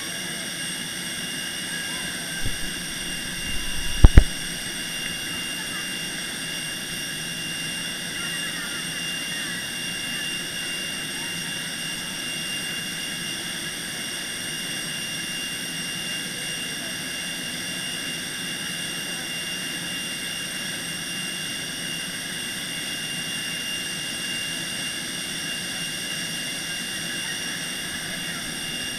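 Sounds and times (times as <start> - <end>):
high-pitched turbine whine: 0.0 - 28.9.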